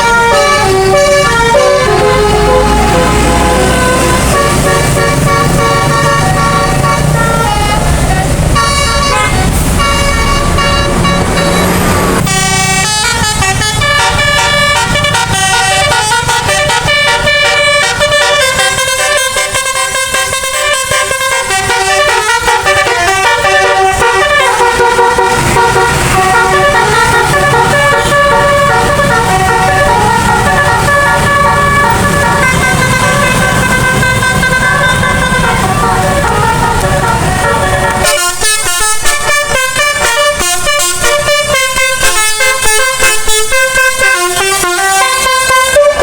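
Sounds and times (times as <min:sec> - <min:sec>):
musical air horn tune: 0:00.0 - 0:46.0.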